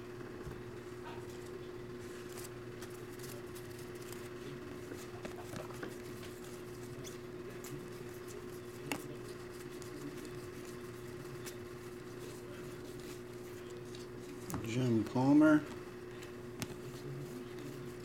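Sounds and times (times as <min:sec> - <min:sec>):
cards ticking and sliding: 0:01.3 - 0:18.0.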